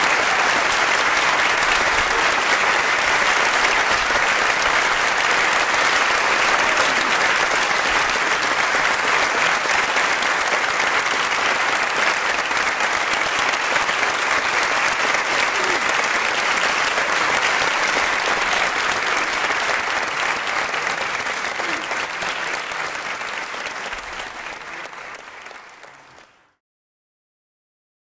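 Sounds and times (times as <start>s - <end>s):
audience applauding: 0.0s - 26.6s.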